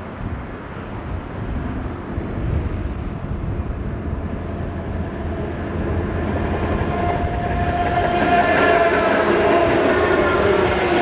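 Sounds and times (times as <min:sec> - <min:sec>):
diesel locomotive engines rumbling: 0:00.0 - 0:11.0.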